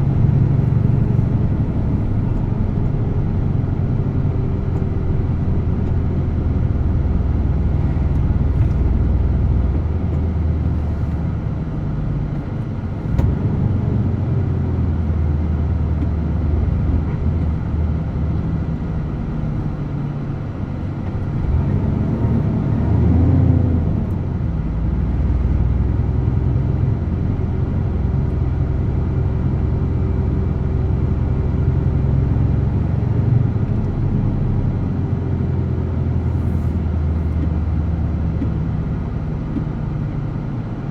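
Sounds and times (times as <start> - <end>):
road noise: 0.0 - 40.9
truck diesel engine droning: 0.0 - 40.9.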